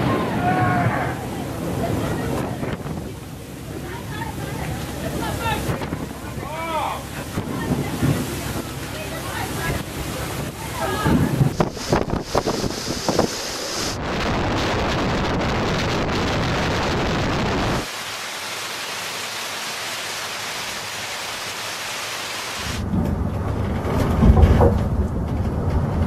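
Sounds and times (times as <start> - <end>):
deep rumble of wind: 0.0 - 17.9, 22.8 - 26.0
rain hiss: 0.0 - 22.8
storm wind and heavy rain: 0.0 - 26.0.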